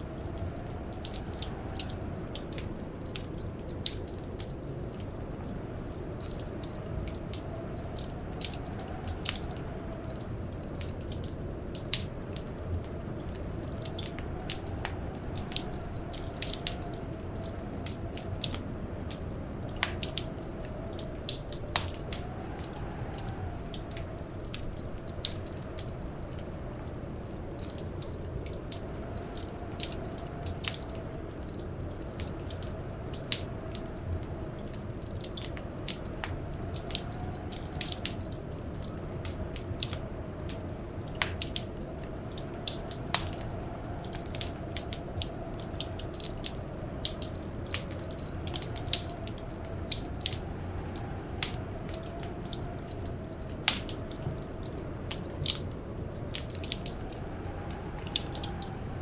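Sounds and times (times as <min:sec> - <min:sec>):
blizzard wind howling: 0:00.0 - 0:59.0
wood fire crackling: 0:00.0 - 0:59.0.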